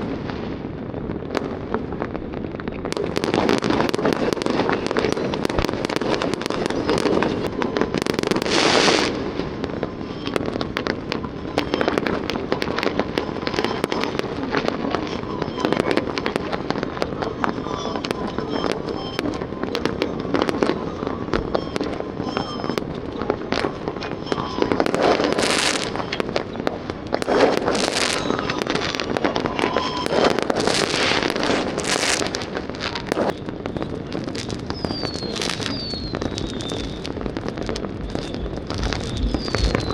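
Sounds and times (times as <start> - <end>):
fireworks crackling and banging: 0.0 - 39.9
fireworks whistling: 0.0 - 39.9.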